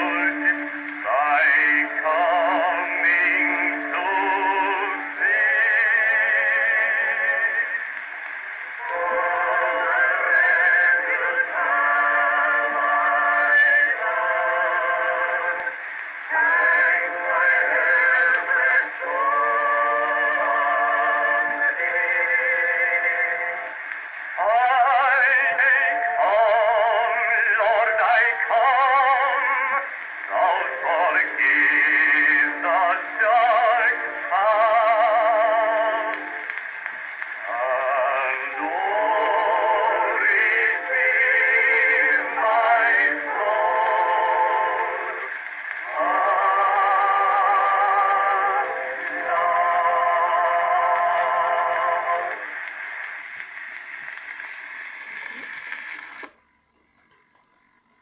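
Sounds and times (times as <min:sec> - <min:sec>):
person singing with vibrato: 0:00.0 - 0:08.0, 0:08.7 - 0:36.6, 0:37.4 - 0:52.6.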